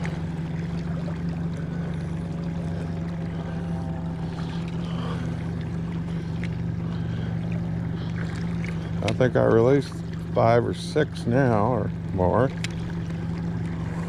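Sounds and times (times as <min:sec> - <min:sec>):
outboard motor humming: 0:00.0 - 0:14.0
water wash behind boat: 0:00.0 - 0:14.0.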